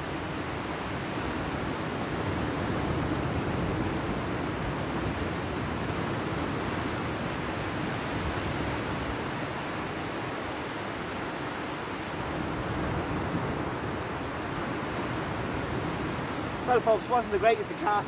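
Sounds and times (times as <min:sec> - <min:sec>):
sea surf breaking: 0:00.0 - 0:18.0.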